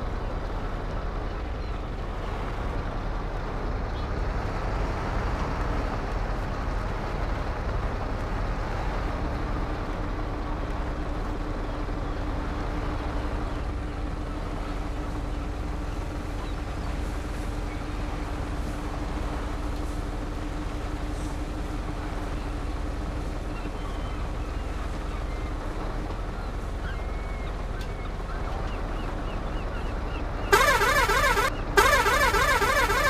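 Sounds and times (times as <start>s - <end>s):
road noise: 0.0s - 33.0s
truck engine rumbling: 0.0s - 33.0s.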